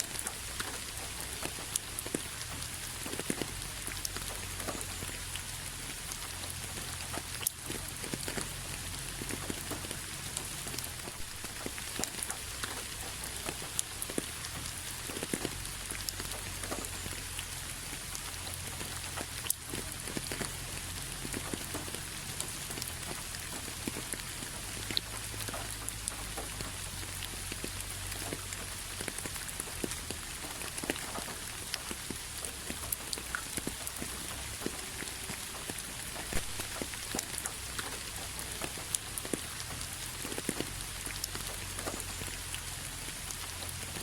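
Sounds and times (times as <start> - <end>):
raindrops striking: 0.0 - 44.0
steady rain hiss: 0.0 - 44.0.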